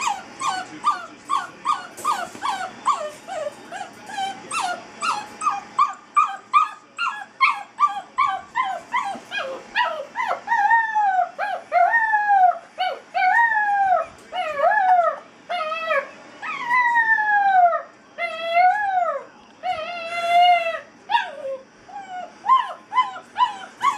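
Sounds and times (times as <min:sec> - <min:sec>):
puppy yelping and howling: 0:00.0 - 0:23.9.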